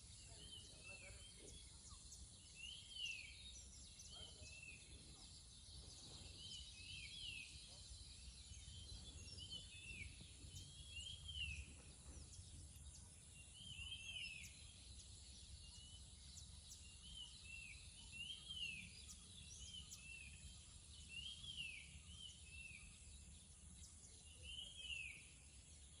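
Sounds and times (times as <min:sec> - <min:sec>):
birds chirping faintly: 0:00.0 - 0:26.0.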